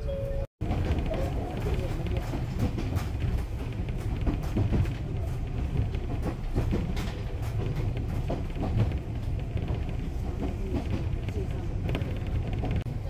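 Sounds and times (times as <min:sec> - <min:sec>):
clicks and rattles: 0:00.6 - 0:12.9
train wheels rumbling on rails: 0:00.6 - 0:13.0.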